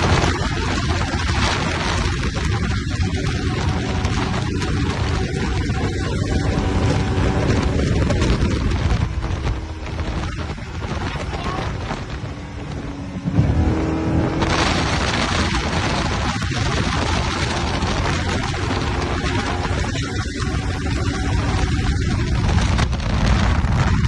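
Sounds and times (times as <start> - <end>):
powerboat engines running hard: 0.0 - 24.0
wind and spray rushing: 0.0 - 24.0.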